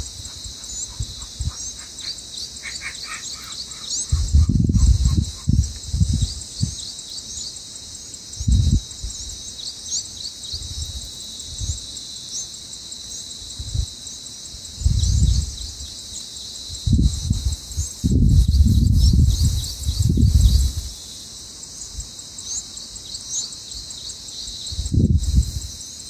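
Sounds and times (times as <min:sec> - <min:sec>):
high insect chorus: 0:00.0 - 0:26.0.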